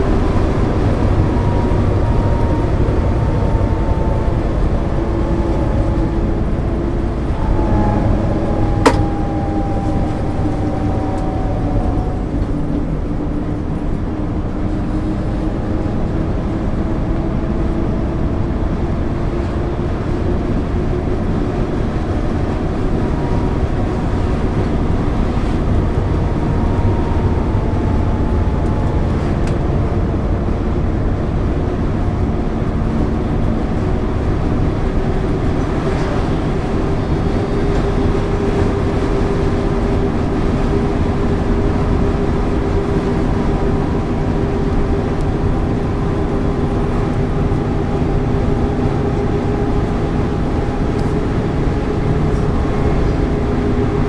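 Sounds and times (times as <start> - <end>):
bus diesel engine rumble: 0.0 - 54.0
whine rising in pitch: 0.0 - 54.0.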